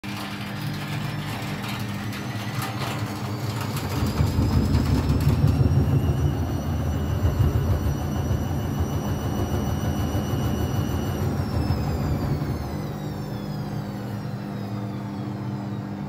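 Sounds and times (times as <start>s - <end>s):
washing machine drum spinning: 0.0s - 16.0s.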